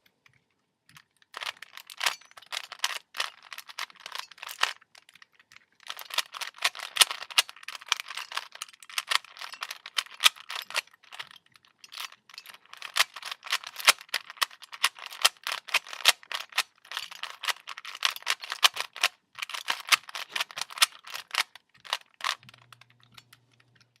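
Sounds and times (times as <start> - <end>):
plastic puzzle cube clicking: 0.0 - 24.0.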